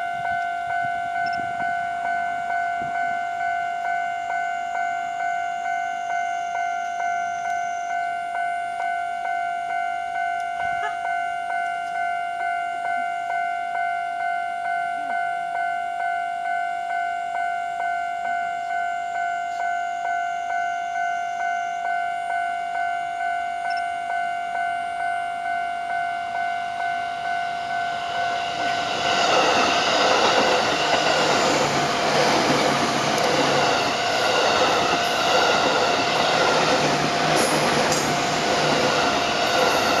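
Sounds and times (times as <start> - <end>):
train rumble and wheel noise: 0.0 - 16.6, 17.3 - 40.0
level-crossing warning bell: 0.0 - 40.0.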